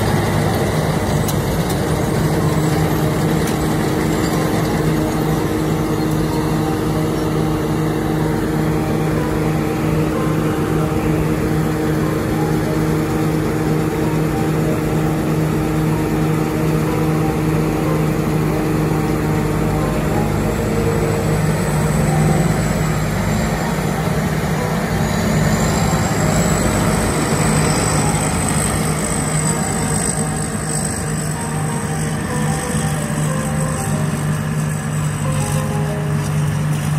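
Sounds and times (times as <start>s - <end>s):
harvester engine droning: 0.0s - 36.9s
thin high whine: 0.0s - 36.9s.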